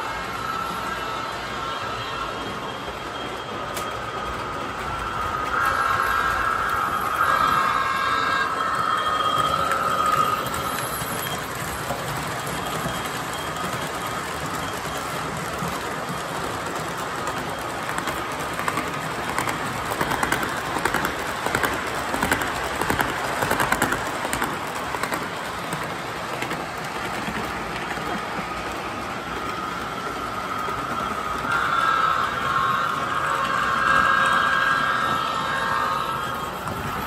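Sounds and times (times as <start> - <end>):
model train wheels rumbling on rail: 0.0 - 37.0.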